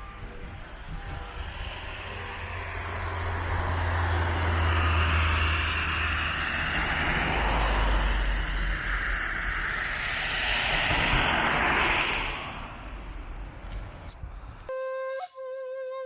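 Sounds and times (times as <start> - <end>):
vehicle passing close: 0.4 - 14.2.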